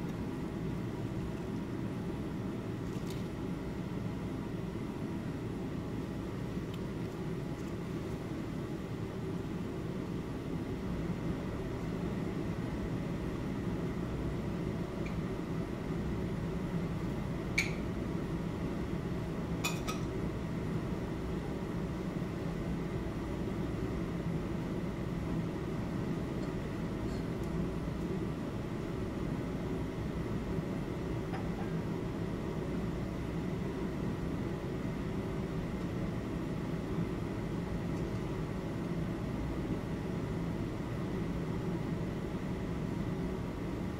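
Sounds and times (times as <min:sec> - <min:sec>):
low room hum: 0:00.0 - 0:43.9.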